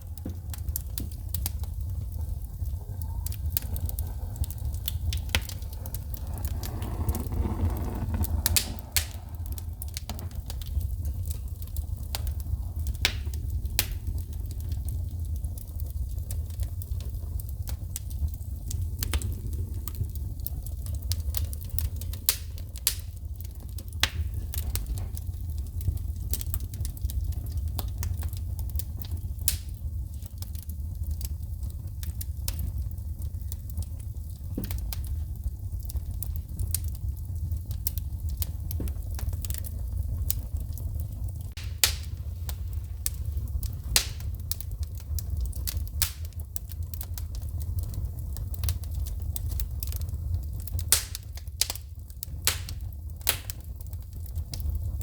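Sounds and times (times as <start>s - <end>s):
low rumble of flames: 0.0s - 55.0s
sharp popping sparks: 0.0s - 55.0s
wood fire crackling: 0.0s - 55.0s.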